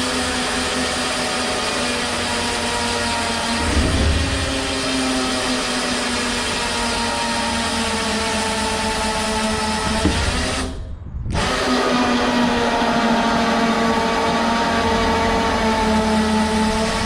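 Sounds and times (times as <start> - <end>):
motor running steadily: 0.0 - 17.0.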